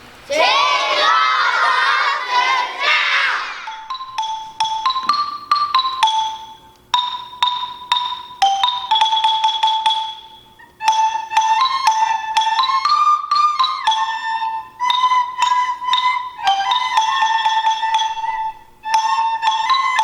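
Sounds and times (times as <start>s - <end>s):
mallet percussion notes ringing: 2.4s - 20.0s.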